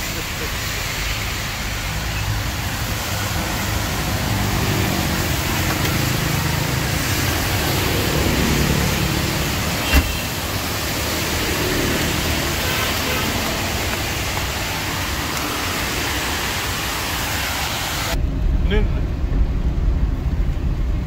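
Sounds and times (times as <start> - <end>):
traffic on wet road: 0.0 - 21.0
vehicle engine hum: 0.0 - 21.0.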